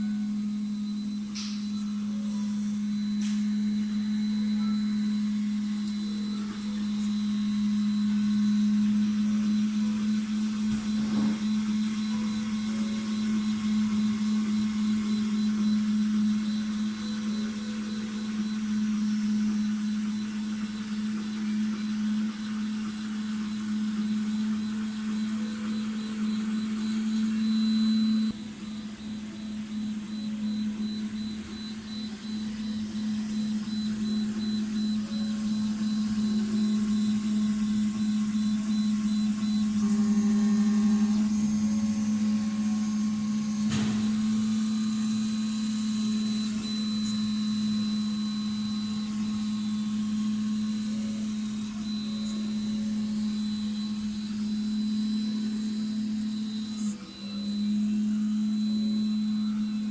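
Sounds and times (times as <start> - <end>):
faint high whine: 0.0 - 59.9
three d printer humming: 0.0 - 59.9.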